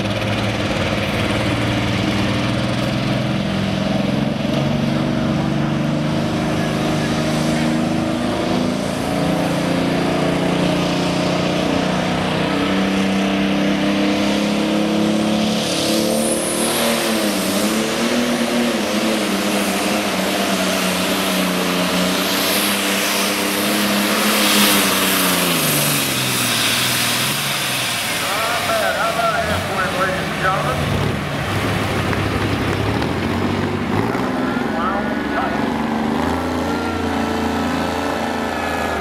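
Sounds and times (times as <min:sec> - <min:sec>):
tractor engine at high revs: 0:00.0 - 0:39.0.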